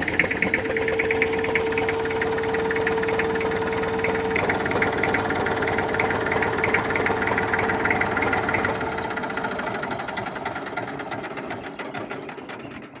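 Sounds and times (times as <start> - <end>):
vehicle engine knocking: 0.0 - 13.0.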